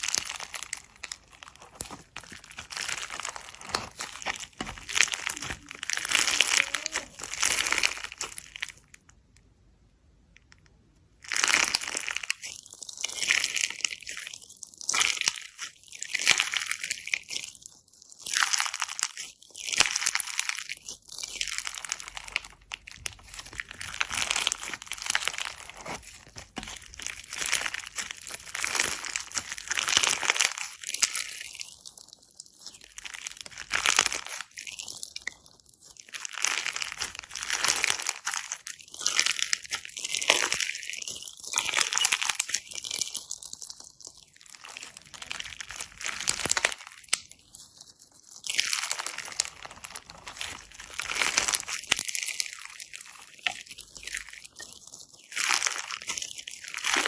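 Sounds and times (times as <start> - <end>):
slime squeezed by hand crackling: 0.0 - 8.8, 18.2 - 57.0.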